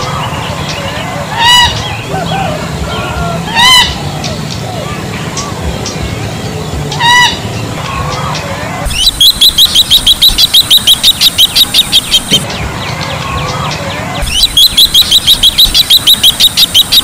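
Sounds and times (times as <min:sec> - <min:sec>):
lower wavering bird call: 0:00.0 - 0:05.6, 0:07.0 - 0:17.0
bird high piping calls: 0:00.0 - 0:06.0, 0:06.9 - 0:17.0.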